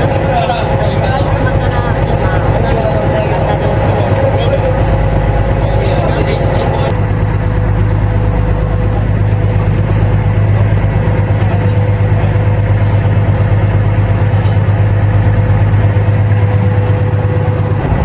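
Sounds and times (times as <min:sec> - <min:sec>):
boat motor droning: 0:00.0 - 0:18.0.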